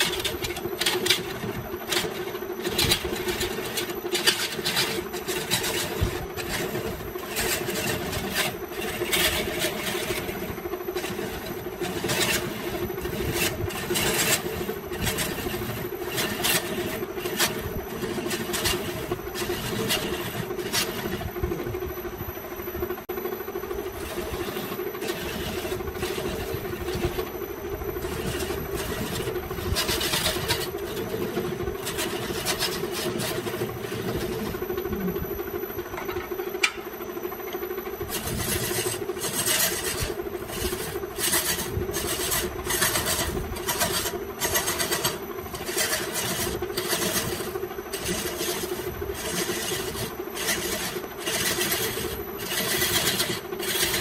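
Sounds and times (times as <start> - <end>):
turning tool scraping wood: 0.0 - 21.4, 23.8 - 35.4, 37.5 - 54.0
lathe motor running: 0.0 - 54.0.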